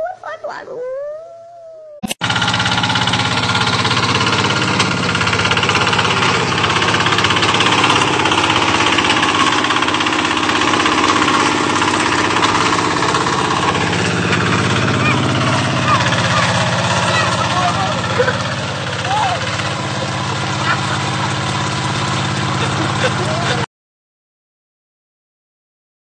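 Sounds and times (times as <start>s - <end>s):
walking tractor engine chugging: 2.2s - 23.7s.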